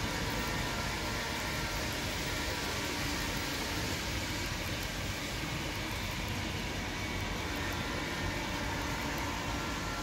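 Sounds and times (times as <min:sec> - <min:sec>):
model train wheels rolling: 0:00.0 - 0:10.0.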